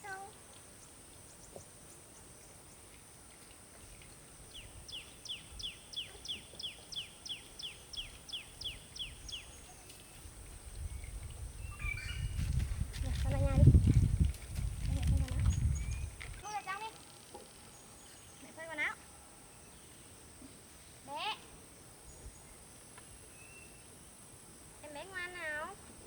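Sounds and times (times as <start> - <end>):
faint background hiss: 0.0 - 26.0.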